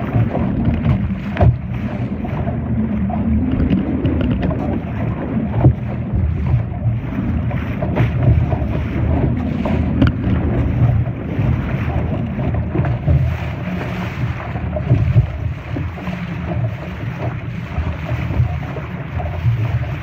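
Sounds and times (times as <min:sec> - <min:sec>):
water splashing against a hull: 0:00.0 - 0:20.0
wind buffeting the microphone: 0:00.0 - 0:20.0.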